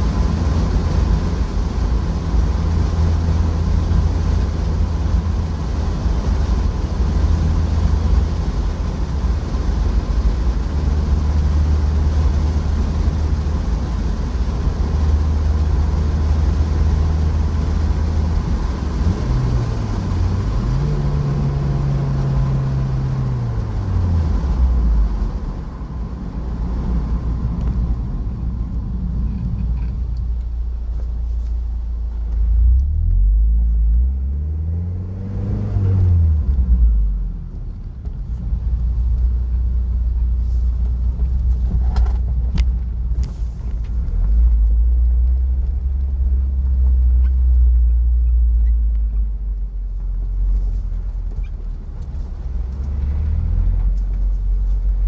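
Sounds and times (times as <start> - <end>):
car engine: 0.0 - 55.0
road rumble: 0.0 - 55.0.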